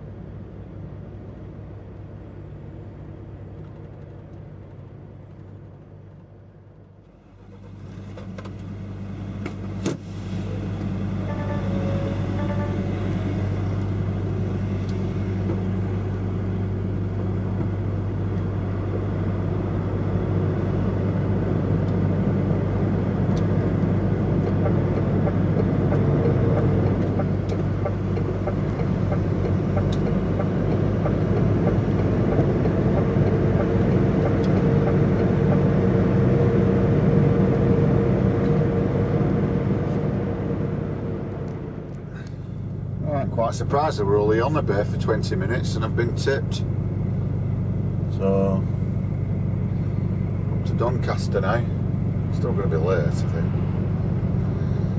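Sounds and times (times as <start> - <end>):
road rumble: 0.0 - 54.9
truck diesel engine running: 0.0 - 54.9.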